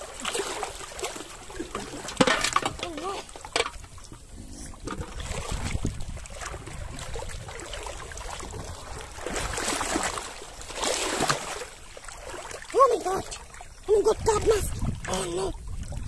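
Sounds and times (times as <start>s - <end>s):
water sloshing around wading person: 0.0s - 16.0s.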